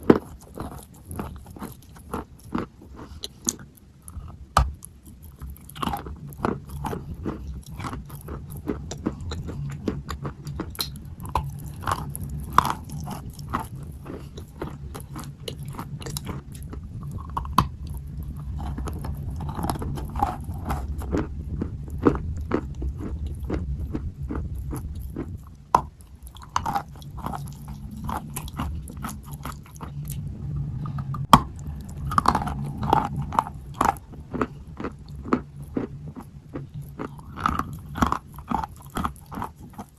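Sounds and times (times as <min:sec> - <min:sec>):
chewing chalk crunches: 0:00.0 - 0:30.2, 0:30.8 - 0:39.9.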